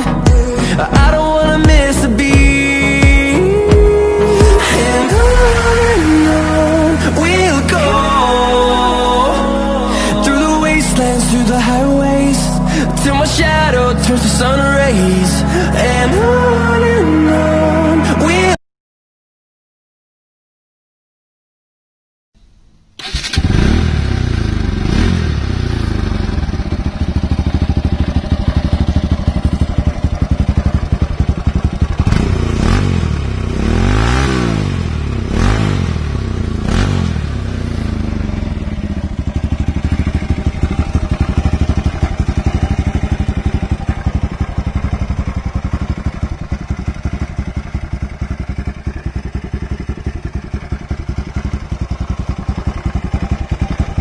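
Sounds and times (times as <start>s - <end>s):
motorcycle engine revving: 0.0s - 18.6s, 23.0s - 54.0s.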